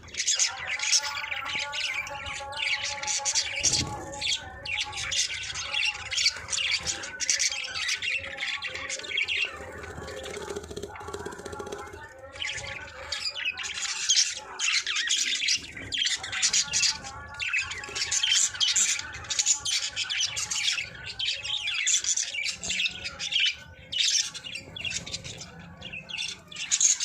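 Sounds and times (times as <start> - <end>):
budgerigars chattering: 0.0 - 27.0.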